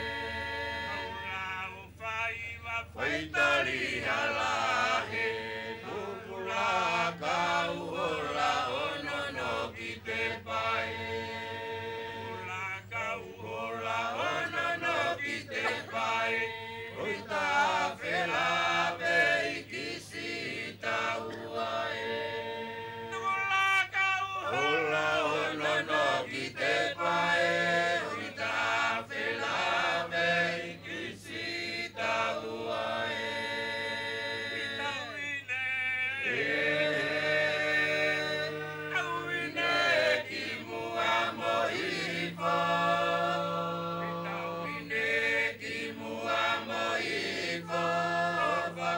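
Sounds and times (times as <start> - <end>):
group singing chant-like song: 0.0 - 48.9.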